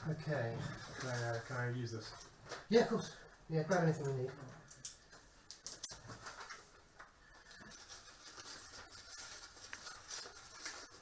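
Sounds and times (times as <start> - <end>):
faint rustling: 0.2 - 3.0, 3.8 - 11.0.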